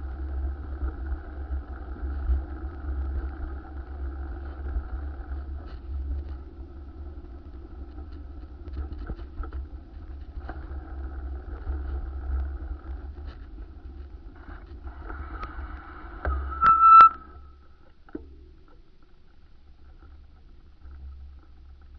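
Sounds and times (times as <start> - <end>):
wind rumble on microphone: 0.0 - 17.7
motor vehicle drone: 0.0 - 17.8.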